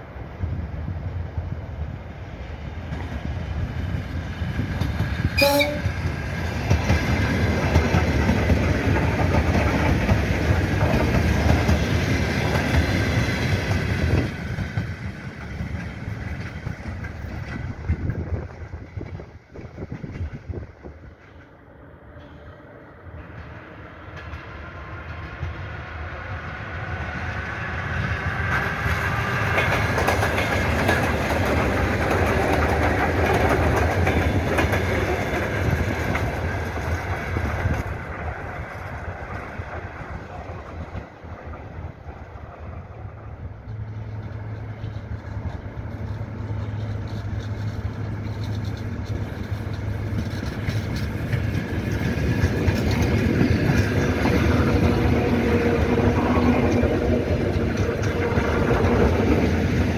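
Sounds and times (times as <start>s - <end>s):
train wheels clattering on track: 2.2s - 59.9s.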